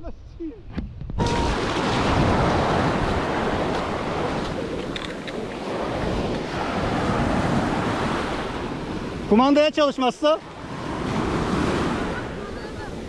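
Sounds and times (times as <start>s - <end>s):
wind rumbling on microphone: 0.2s - 9.4s, 10.4s - 13.0s
waves washing in surf: 1.2s - 13.0s.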